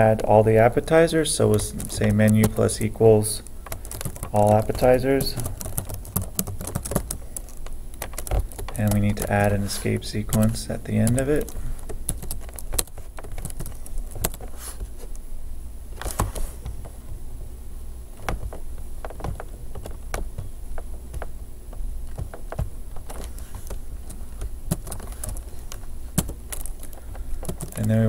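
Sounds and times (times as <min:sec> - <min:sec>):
steady low hum: 0:00.0 - 0:28.0
keyboard keys clicking: 0:01.4 - 0:14.5, 0:18.2 - 0:28.0.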